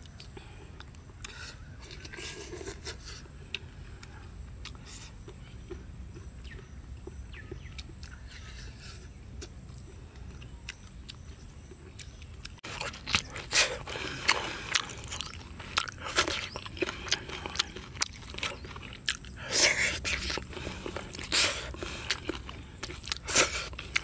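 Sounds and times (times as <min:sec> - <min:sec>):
close-up chewing and biting: 0:00.0 - 0:24.0.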